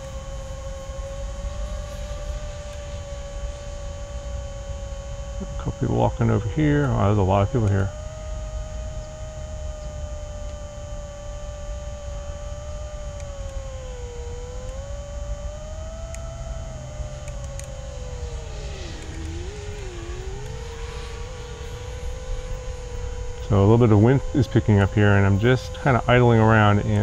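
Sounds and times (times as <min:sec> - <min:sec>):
low wind rumble: 0:00.0 - 0:27.0
quadcopter motors whining: 0:00.0 - 0:27.0.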